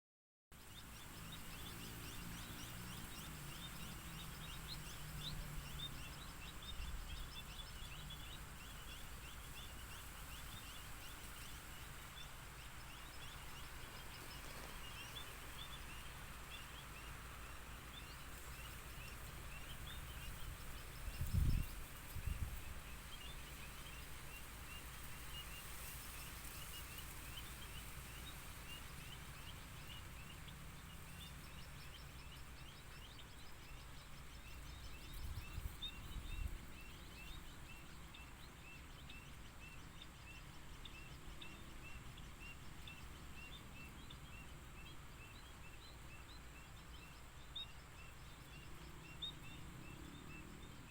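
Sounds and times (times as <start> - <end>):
small birds chirping: 0.6 - 50.9.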